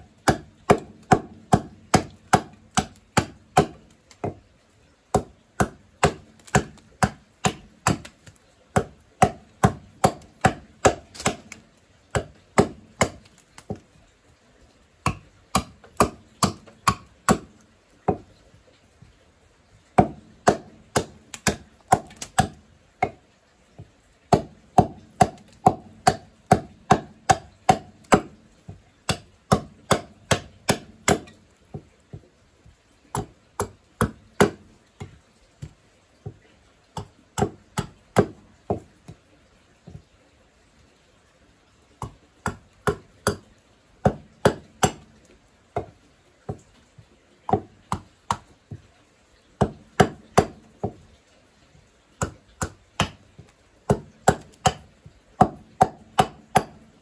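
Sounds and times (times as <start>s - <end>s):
hatchet chopping wood: 0.0s - 4.4s, 5.1s - 13.8s, 15.0s - 18.4s, 20.0s - 23.2s, 23.8s - 32.2s, 33.1s - 36.4s, 37.0s - 39.2s, 42.0s - 46.7s, 47.5s - 48.8s, 49.6s - 51.0s, 52.2s - 57.0s.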